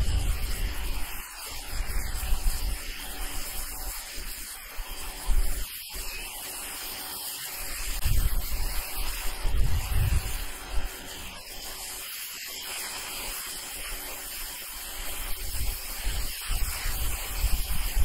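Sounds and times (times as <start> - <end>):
pressure washer jet hissing: 0.0 - 18.0.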